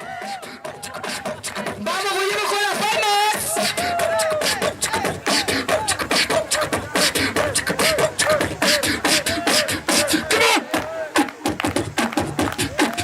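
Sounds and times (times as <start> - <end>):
beatboxing: 0.0 - 13.0.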